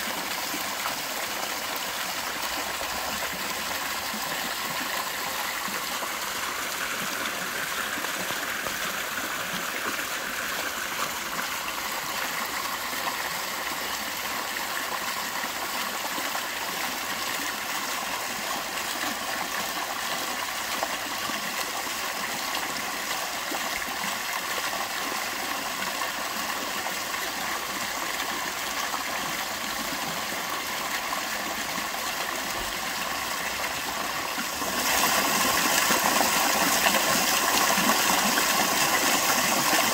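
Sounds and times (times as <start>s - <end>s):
fountain splashing: 0.0s - 39.9s.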